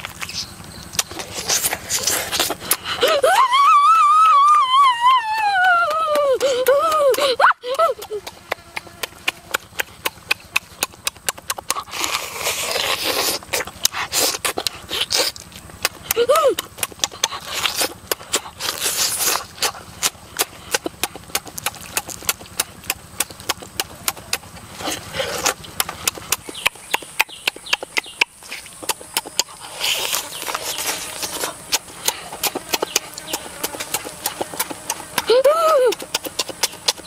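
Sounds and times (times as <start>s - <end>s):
chewing and lip-smacking: 0.0s - 37.0s
wet mouth clicks: 0.1s - 3.0s, 6.1s - 37.0s.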